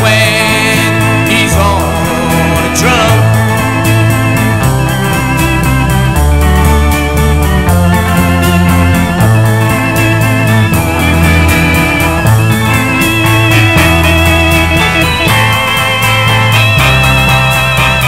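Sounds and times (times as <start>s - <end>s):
arpeggiated electric guitar: 0.0s - 18.0s
bass: 0.0s - 18.0s
drums: 0.0s - 18.0s
electric organ: 0.0s - 18.0s.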